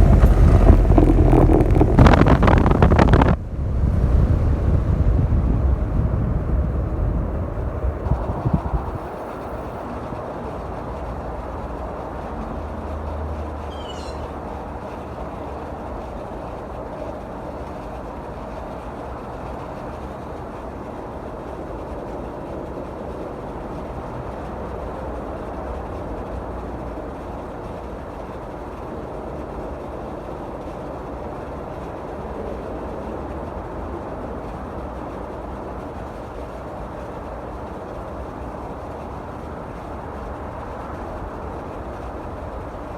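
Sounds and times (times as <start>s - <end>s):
air conditioner fan hum: 0.0s - 42.9s.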